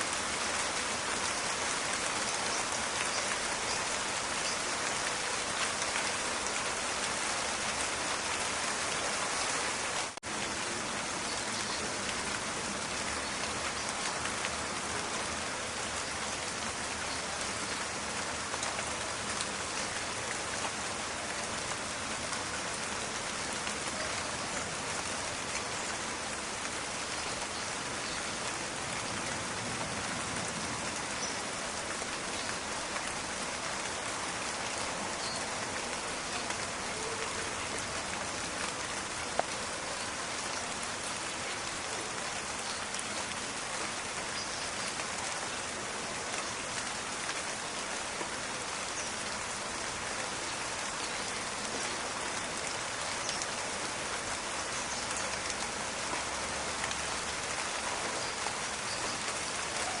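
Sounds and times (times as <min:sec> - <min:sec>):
rain falling on leaves: 0:00.0 - 1:00.0.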